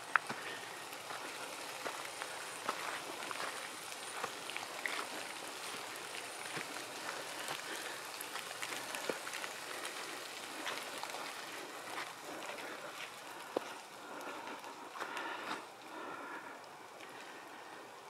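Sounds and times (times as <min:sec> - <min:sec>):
footsteps through undergrowth: 0:00.0 - 0:15.7
steady hiss: 0:00.0 - 0:18.0.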